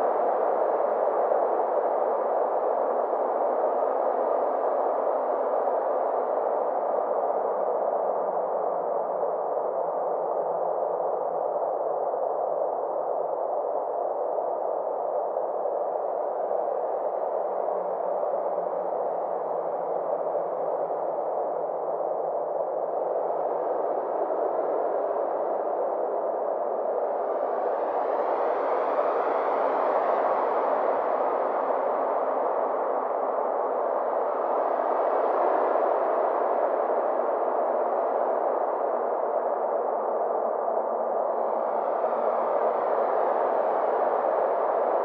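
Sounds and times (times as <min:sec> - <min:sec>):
filtered synthesized noise drone: 0:00.0 - 0:45.0.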